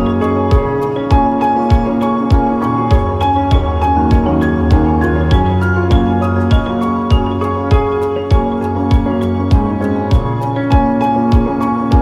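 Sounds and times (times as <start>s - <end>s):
steady thumping beat: 0.0s - 12.0s
sustained keyboard notes: 0.0s - 12.0s.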